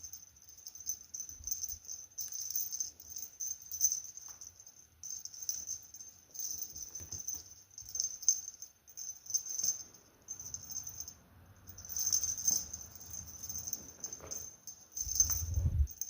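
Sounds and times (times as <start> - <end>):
cat toy jingling: 0.0 - 16.0.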